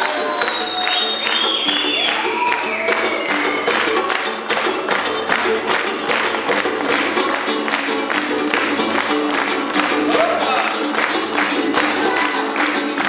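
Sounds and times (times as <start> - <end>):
hand-clapping: 0.0 - 13.0
lutes strummed and plucked: 0.0 - 13.0
hand drum: 1.9 - 13.0.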